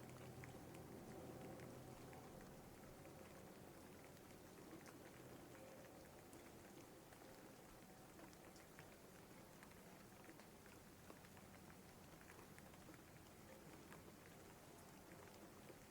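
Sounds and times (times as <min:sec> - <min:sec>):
faint steady rain: 0:00.0 - 0:15.9
raindrop ticks: 0:00.0 - 0:15.9.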